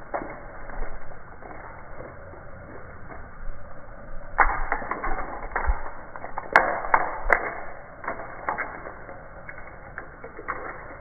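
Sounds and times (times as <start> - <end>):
dry leaves skittering on stone: 0.0 - 11.0.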